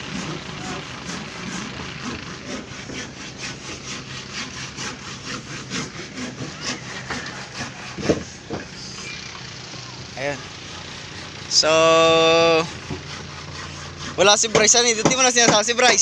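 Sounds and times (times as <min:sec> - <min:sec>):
hand saw cutting wood: 0:00.0 - 0:16.0.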